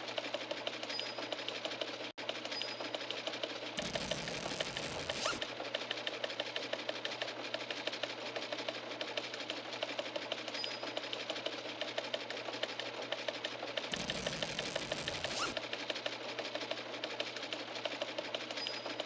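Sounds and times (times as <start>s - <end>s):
rapid mechanical clatter: 0.0s - 19.0s.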